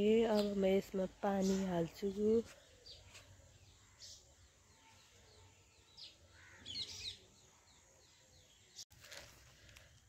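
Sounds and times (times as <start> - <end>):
birds chirping: 0.0 - 8.9.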